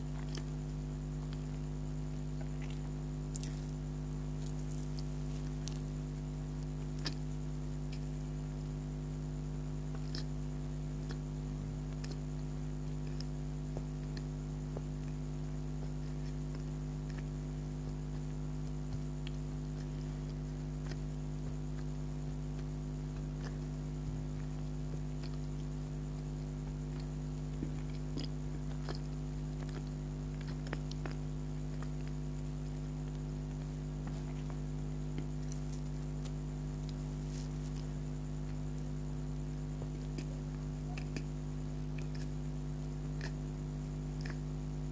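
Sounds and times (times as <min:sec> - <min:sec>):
mouth chewing with smacks: 0:00.0 - 0:08.8, 0:09.8 - 0:44.6
steady low hum: 0:00.0 - 0:44.9.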